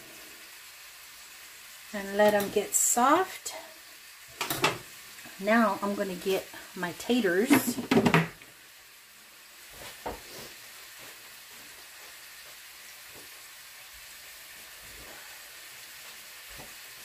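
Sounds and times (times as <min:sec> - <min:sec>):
pots boiling hiss: 0:00.0 - 0:17.0.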